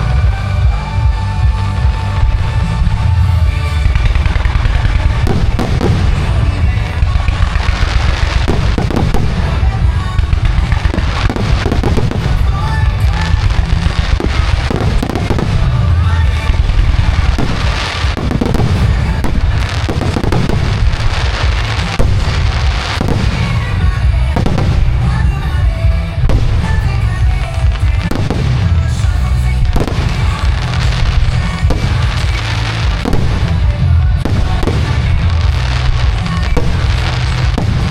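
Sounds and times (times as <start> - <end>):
fireworks bursting: 0.0 - 37.9
music over loudspeakers: 0.0 - 37.9.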